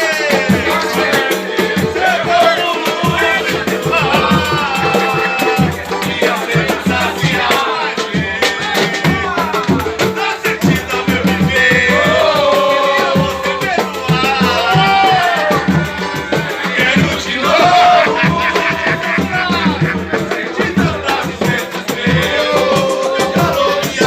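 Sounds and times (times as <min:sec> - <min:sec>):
drums and shaker beat: 0:00.0 - 0:24.0
person singing: 0:00.0 - 0:24.0.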